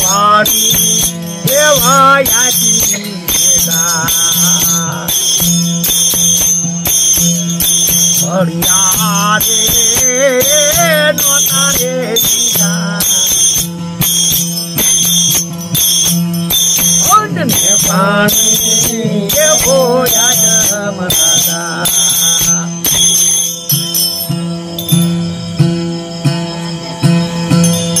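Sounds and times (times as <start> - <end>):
man singing: 0.0 - 15.5, 16.6 - 23.5
folk string instrument strummed: 0.0 - 28.0.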